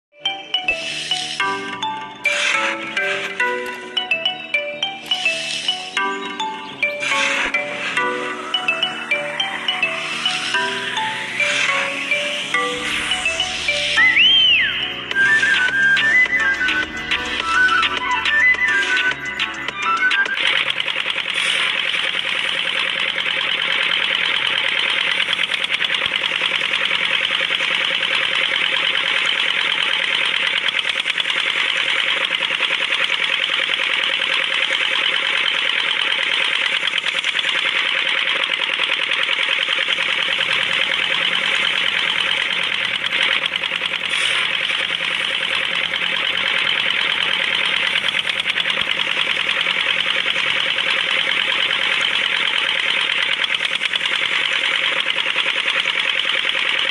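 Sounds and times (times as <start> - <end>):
small motor rattling: 2.2 - 56.9.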